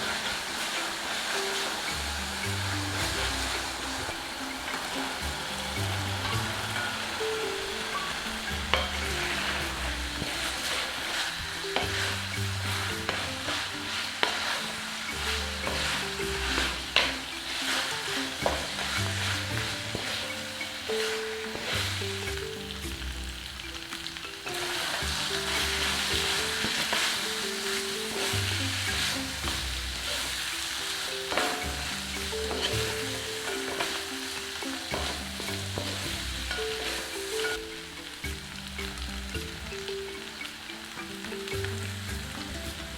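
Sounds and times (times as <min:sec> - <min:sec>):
utensil knocking against pan: 0:00.0 - 0:39.0
background music with bass: 0:00.0 - 0:42.9
chicken sizzling in a pan: 0:00.0 - 0:42.9.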